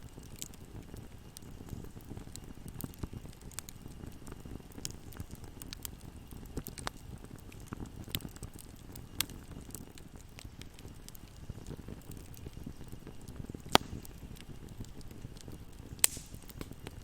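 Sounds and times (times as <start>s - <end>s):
fire crackling and popping: 0.0s - 17.0s
flames rumbling: 0.0s - 17.0s.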